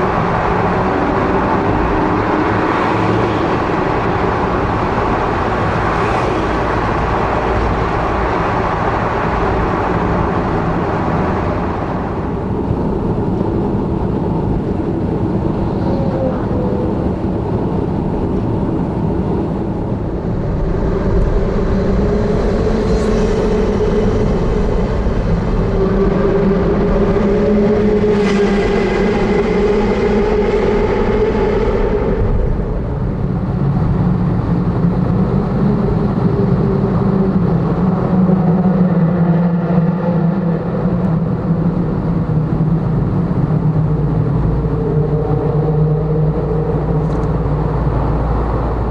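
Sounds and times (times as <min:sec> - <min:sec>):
car engine and road noise: 0:00.0 - 0:48.9
pitched engine drone: 0:00.0 - 0:48.9.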